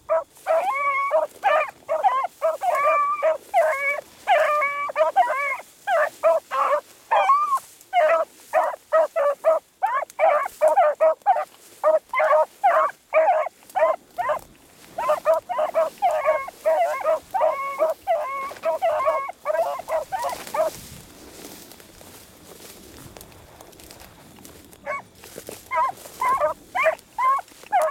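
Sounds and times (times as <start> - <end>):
hounds baying: 0.0 - 22.7, 24.8 - 27.9.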